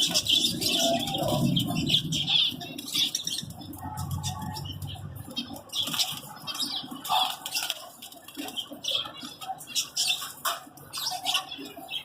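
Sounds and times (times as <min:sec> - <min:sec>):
birds fluttering wings: 0:00.0 - 0:12.0
caged birds chirping: 0:00.0 - 0:12.0.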